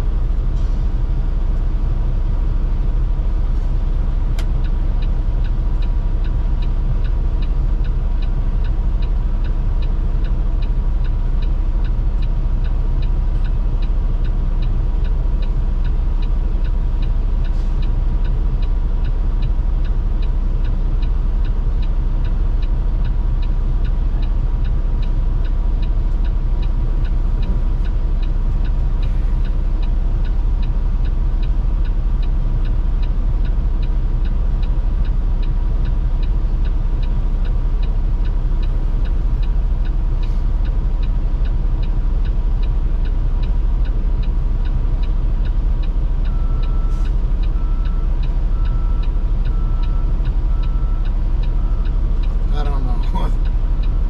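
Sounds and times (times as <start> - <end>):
diesel truck engine idling: 0.0 - 54.0
regular light ticking: 3.7 - 54.0.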